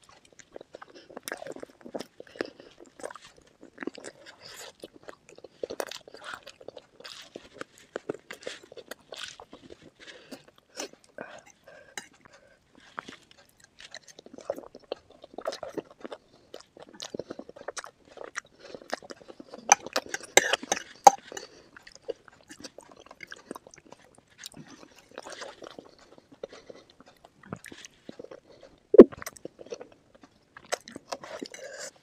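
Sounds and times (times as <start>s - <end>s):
chewing and biting: 0.0s - 32.0s.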